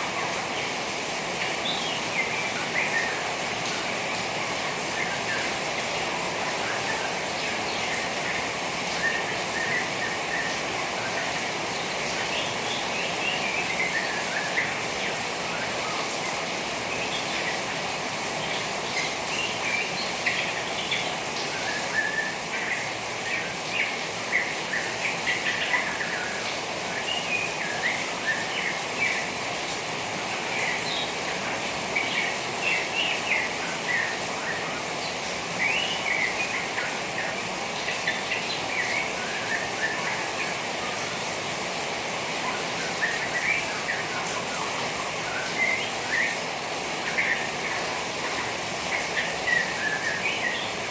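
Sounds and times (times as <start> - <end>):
trickling rainwater: 0.0 - 50.9.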